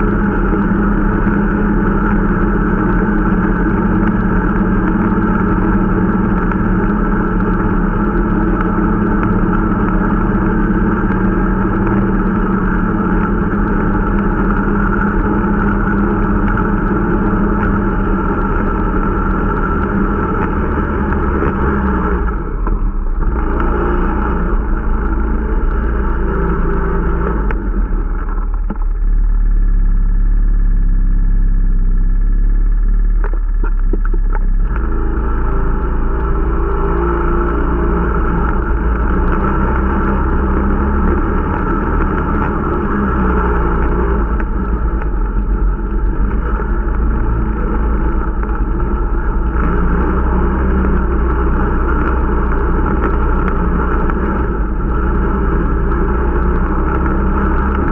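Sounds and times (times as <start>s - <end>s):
snowmobile engine running: 0.0s - 57.9s.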